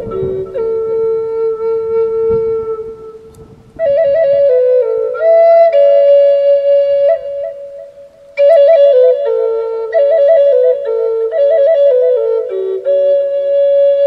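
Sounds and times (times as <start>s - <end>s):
flute playing slow melody: 0.0s - 14.0s.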